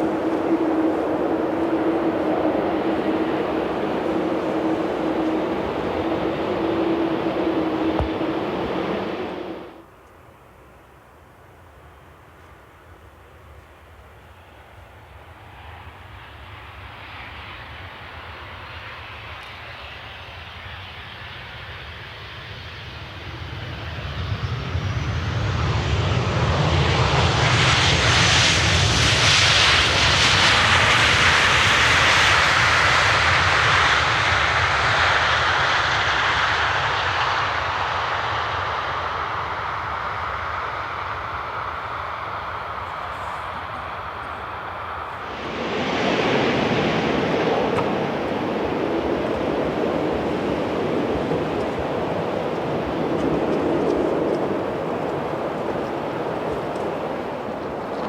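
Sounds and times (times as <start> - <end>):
jet airliner passing: 0.0 - 10.0, 11.0 - 58.0.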